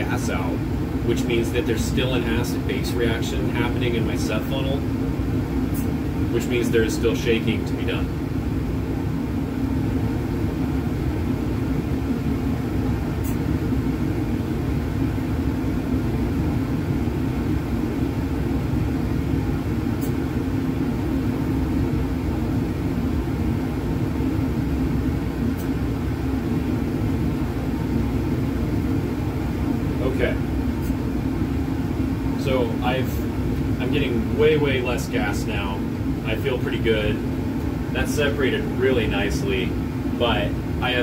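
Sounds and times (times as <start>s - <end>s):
low rumble of air handling: 0.0s - 41.0s.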